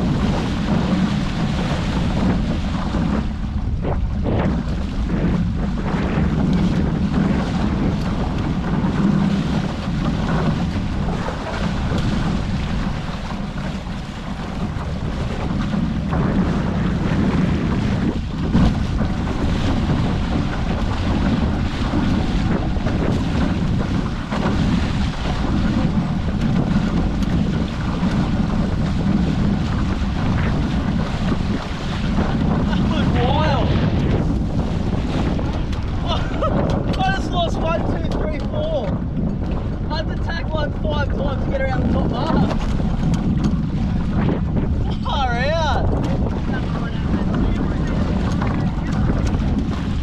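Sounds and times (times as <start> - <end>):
water rushing past boat: 0.0 - 50.0
wind buffeting microphone: 0.0 - 50.0.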